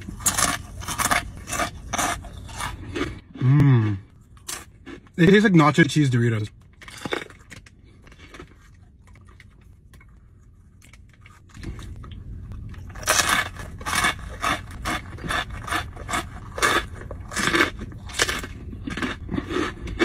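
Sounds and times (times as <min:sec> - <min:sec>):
chili pepper crunching: 0:00.0 - 0:05.4, 0:06.5 - 0:20.0.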